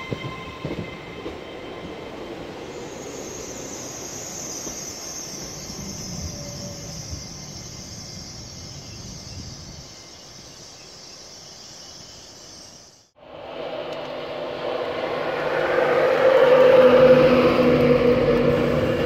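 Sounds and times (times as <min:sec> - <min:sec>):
electric locomotive whine: 0:00.0 - 0:19.0
electric train hiss and rumble: 0:00.8 - 0:19.0.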